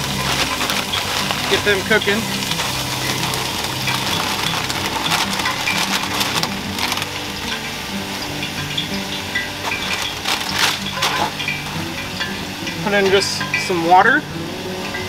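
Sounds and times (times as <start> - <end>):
plastic bag crinkling: 0.0 - 13.7
food sizzling in a pot: 0.0 - 15.0.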